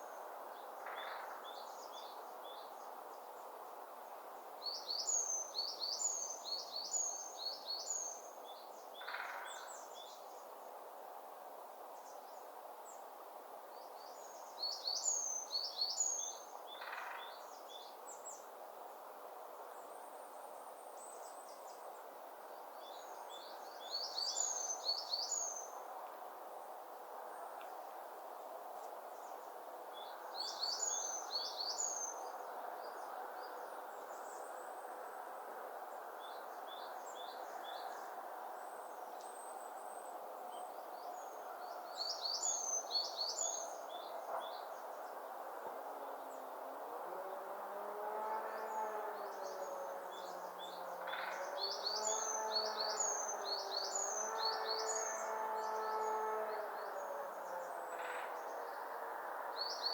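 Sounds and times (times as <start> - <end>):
songbird singing: 0.0 - 10.8, 11.9 - 18.6, 19.6 - 59.9.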